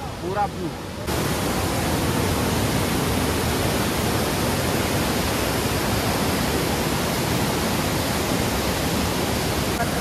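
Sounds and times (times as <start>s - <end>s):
water rushing at a dam: 0.0s - 10.0s.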